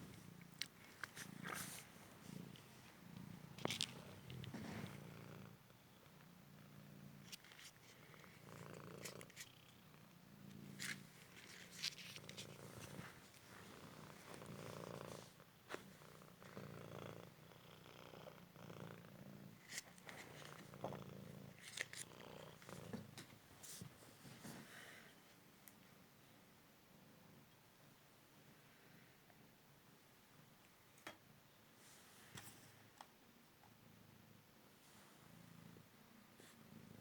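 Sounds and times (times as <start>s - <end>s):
cat purring: 0.0s - 29.7s, 33.6s - 37.0s.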